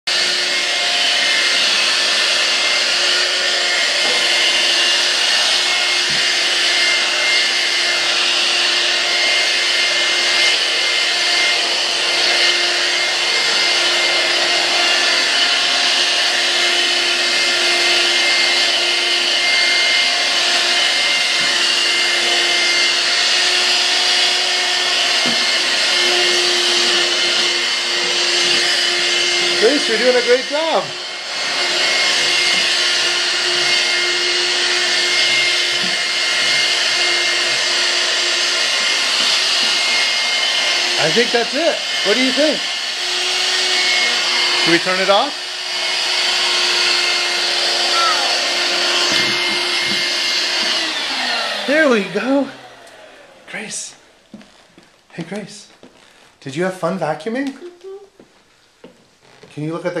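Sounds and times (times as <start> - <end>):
vacuum cleaner running: 0.0 - 60.0.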